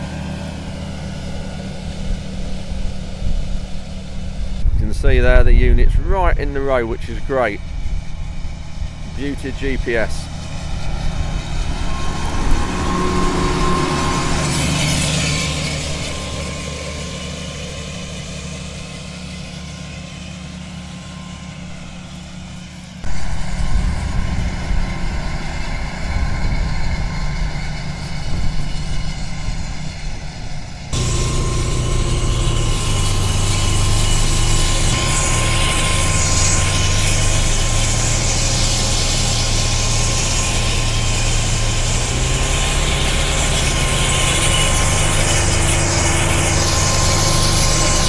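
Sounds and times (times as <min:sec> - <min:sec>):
rough low rumble: 0:00.0 - 0:19.1, 0:23.0 - 0:48.0
tractor engine running: 0:00.0 - 0:48.0.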